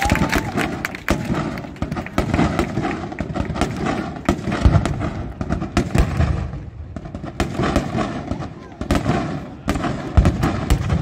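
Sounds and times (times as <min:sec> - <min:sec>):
firework bursts and crackles: 0:00.0 - 0:11.0
heavy firework booms: 0:00.0 - 0:11.0.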